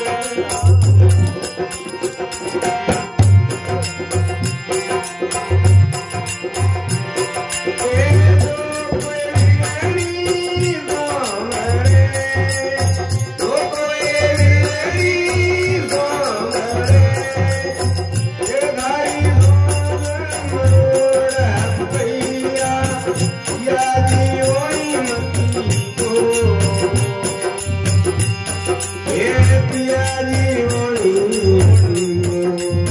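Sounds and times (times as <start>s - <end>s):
men singing: 0.0s - 1.8s, 7.4s - 32.9s
harmonium: 0.0s - 32.9s.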